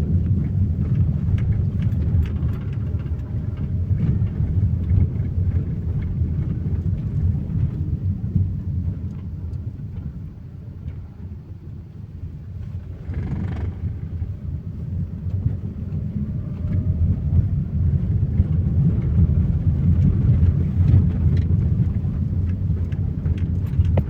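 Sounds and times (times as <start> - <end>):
train rumbling: 0.0 - 11.3, 11.9 - 24.0.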